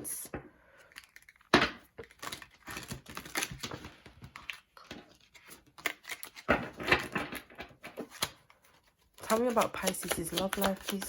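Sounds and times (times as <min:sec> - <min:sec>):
cards being shuffled: 0:02.0 - 0:11.0.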